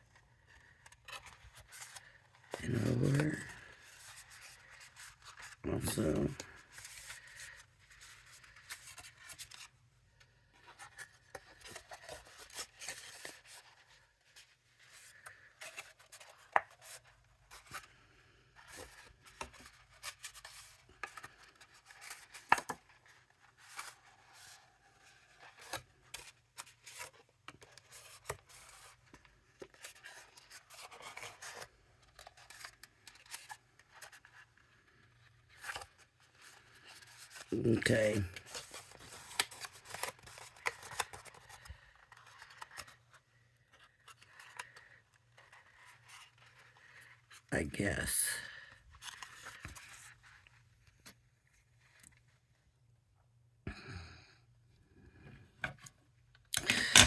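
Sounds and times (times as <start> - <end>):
paper rustling and creasing: 0.0 - 47.5, 48.5 - 52.8, 55.7 - 57.0.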